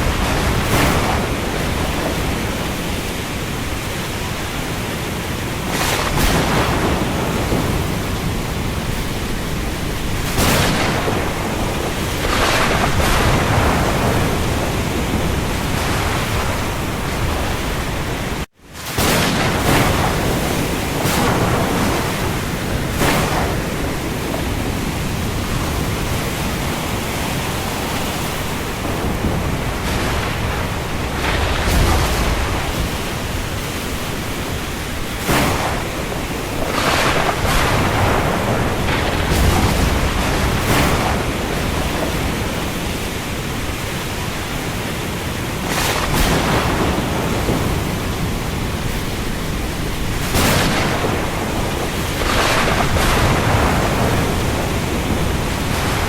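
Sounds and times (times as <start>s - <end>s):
heavy rain on the sea: 0.0s - 56.0s.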